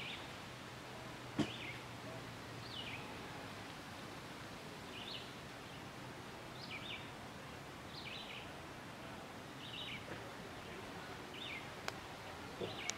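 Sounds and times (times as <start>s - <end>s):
outdoor background hiss: 0.0s - 12.9s.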